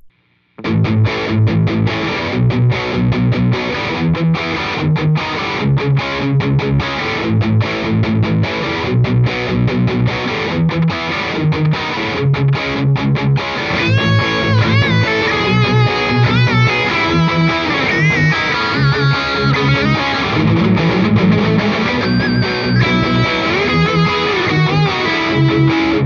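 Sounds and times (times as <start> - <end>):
distorted electric guitar riff: 0.0 - 26.0.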